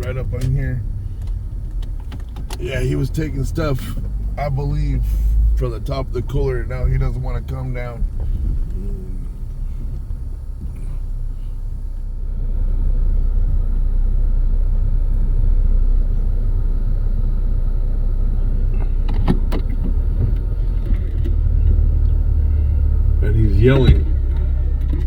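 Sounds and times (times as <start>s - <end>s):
car cabin rumble: 0.0s - 25.0s.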